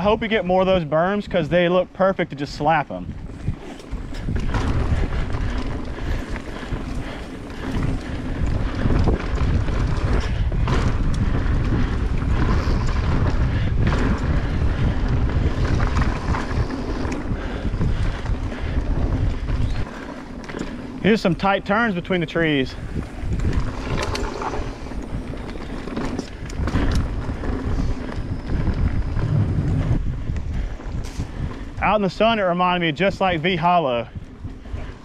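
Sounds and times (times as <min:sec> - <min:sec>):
bike tyres rumbling on dirt: 0:00.0 - 0:35.0
wind buffeting microphone: 0:00.0 - 0:35.0.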